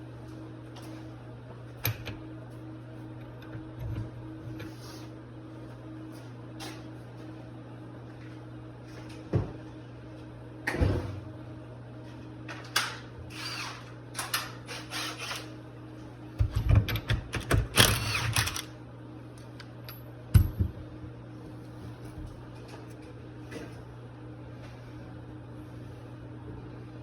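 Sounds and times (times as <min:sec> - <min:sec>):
steady low hum: 0:00.0 - 0:14.8, 0:15.6 - 0:27.0.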